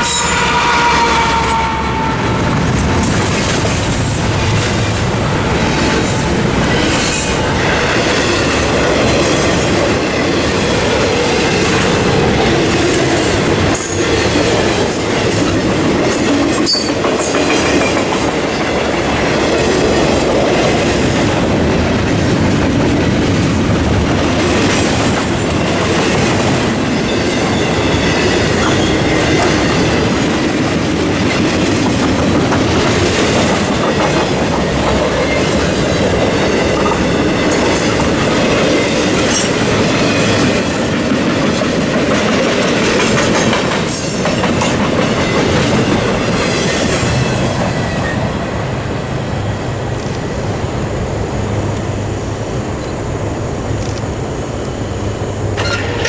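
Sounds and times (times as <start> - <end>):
freight train wheels clacking: 0.0 - 50.3.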